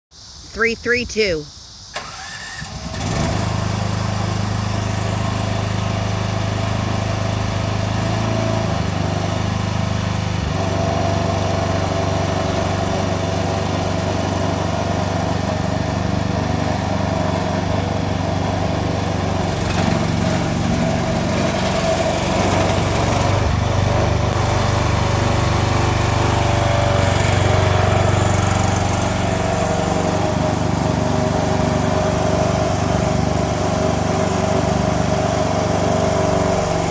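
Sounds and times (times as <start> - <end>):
small engine running: 2.0 - 36.9.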